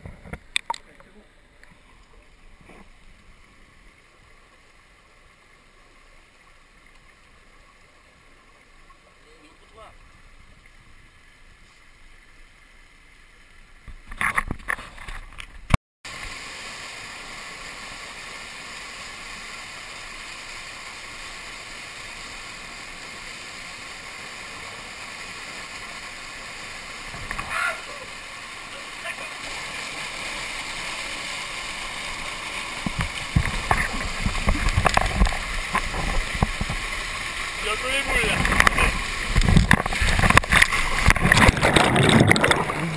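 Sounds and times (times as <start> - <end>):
stream water rushing: 0.0 - 15.4, 16.1 - 42.9
water splashes: 0.0 - 42.9.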